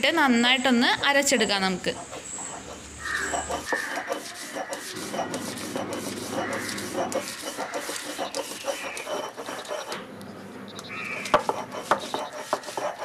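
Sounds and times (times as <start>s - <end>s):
stone roller grinding paste: 0.8s - 10.1s, 10.8s - 13.0s.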